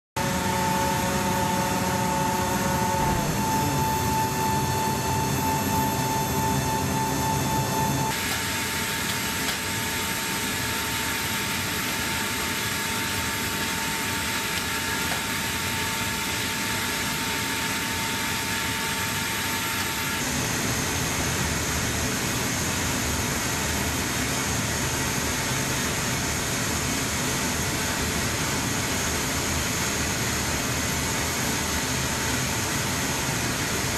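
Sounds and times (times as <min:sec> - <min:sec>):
aircraft systems hum and whine: 0:00.2 - 0:33.9.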